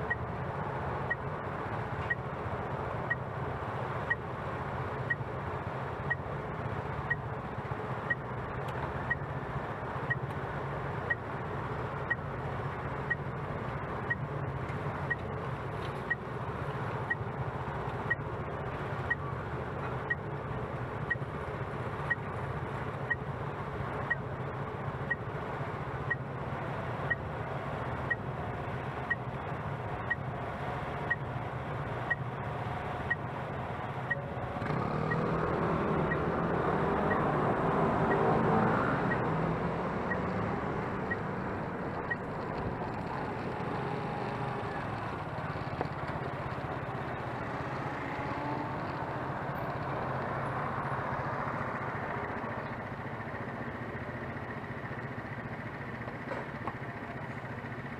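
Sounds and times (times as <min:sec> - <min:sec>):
large vehicle engine: 0:00.0 - 0:57.9
road and wind rumble: 0:00.0 - 0:57.9.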